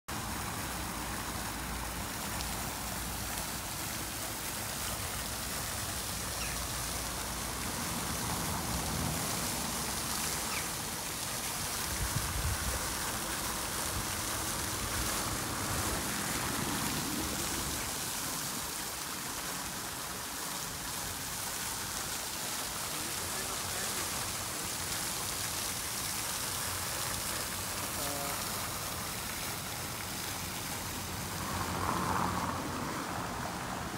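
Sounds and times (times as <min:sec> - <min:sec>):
fountain spray splashing on water: 0:00.1 - 0:33.9.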